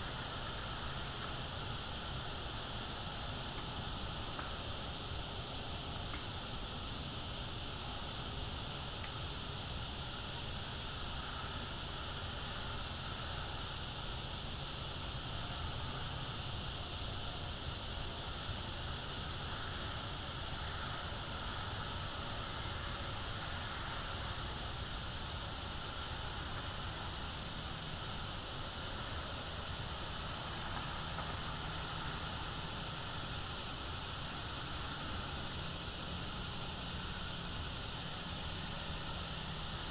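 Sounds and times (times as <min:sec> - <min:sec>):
microphone hiss: 0:00.0 - 0:39.9.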